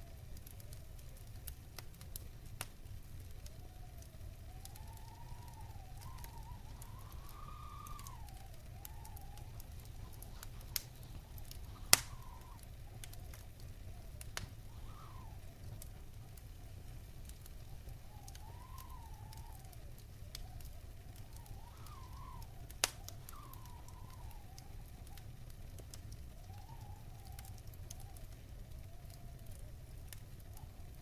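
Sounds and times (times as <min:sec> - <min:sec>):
low steady rumble: 0:00.0 - 0:31.0
wood fire crackling: 0:00.0 - 0:31.0
sharp pops of fire: 0:00.1 - 0:31.0
faint wavering howl: 0:02.1 - 0:31.0.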